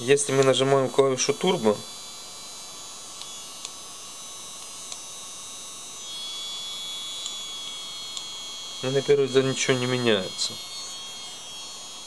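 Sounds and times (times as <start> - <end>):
mini vacuum cleaner whine: 0.0 - 12.0.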